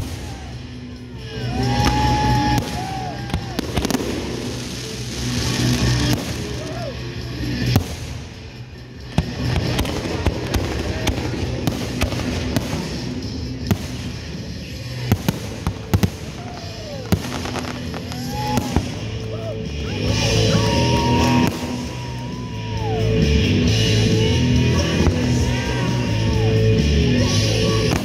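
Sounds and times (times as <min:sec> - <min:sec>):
fireworks bangs and crackles: 0:00.0 - 0:28.0
music playing: 0:00.0 - 0:28.0.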